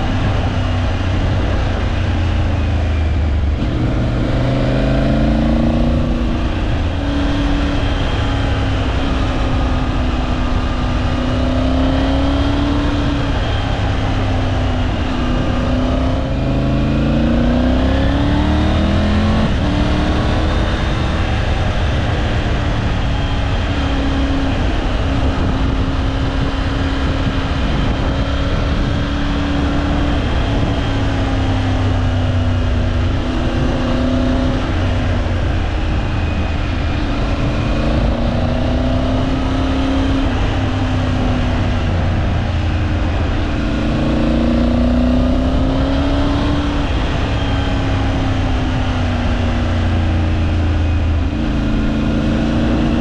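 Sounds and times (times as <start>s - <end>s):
motorcycle engine revving: 0.0s - 53.0s
steady wind rush: 0.0s - 53.0s.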